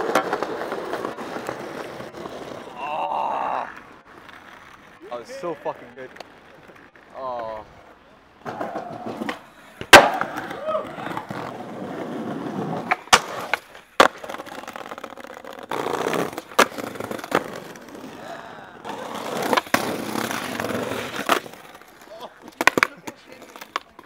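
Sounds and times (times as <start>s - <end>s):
skateboard tail clacking: 0.0s - 2.8s, 3.7s - 24.0s
skateboard wheels rolling on pavement: 0.0s - 24.0s.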